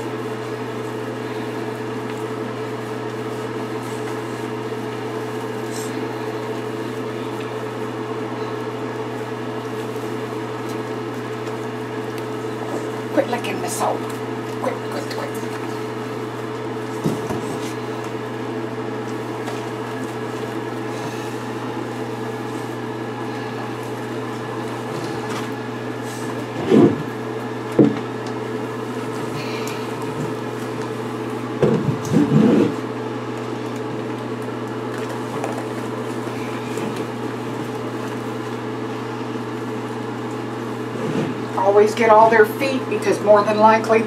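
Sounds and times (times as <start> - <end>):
steady mechanical hum: 0.0 - 44.0.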